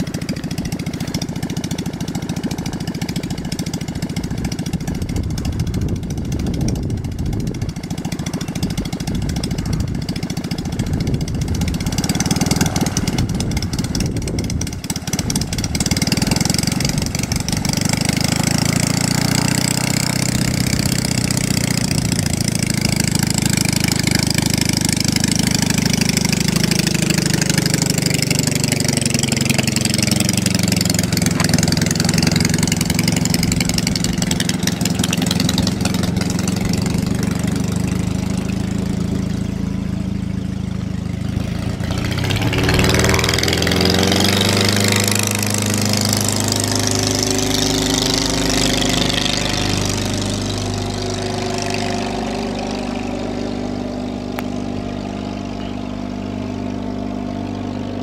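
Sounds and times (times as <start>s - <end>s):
ultralight aircraft engine running: 0.0s - 58.0s.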